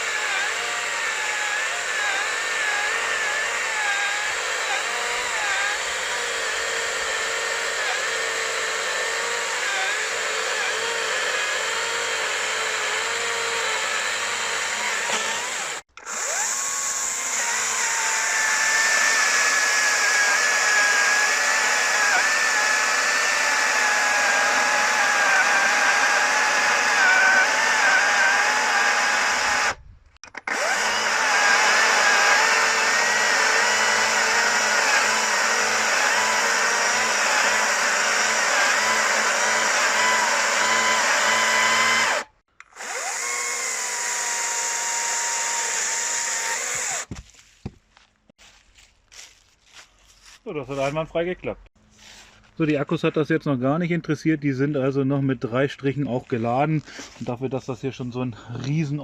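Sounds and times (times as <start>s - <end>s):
electric chainsaw cutting log: 0.0s - 47.2s.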